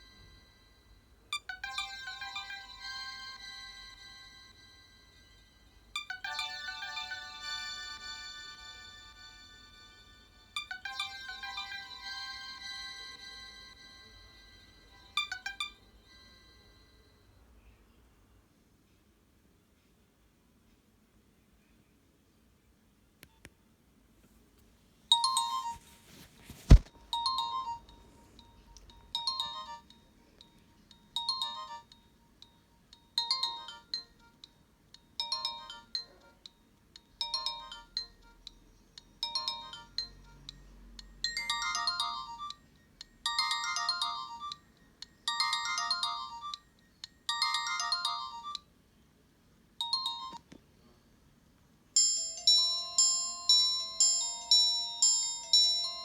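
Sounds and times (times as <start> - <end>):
mobile phone ringtone melody: 0.0 - 17.3, 25.1 - 48.7, 49.8 - 50.4, 52.0 - 56.0.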